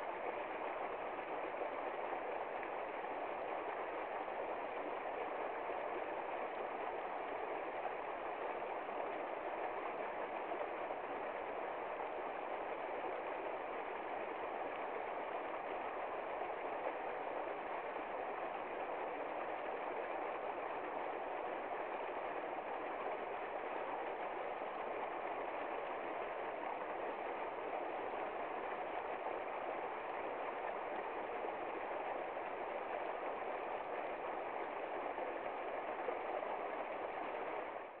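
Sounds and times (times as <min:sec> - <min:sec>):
stream running over rocks: 0:00.0 - 0:38.0.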